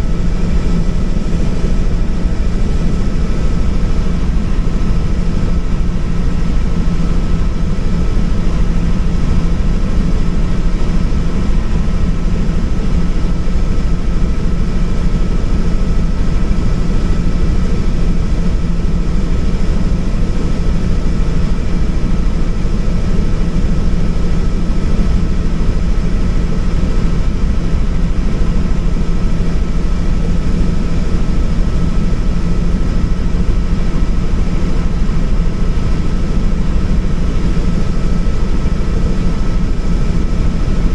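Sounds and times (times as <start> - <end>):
helicopter drone inside cabin: 0.0 - 40.9.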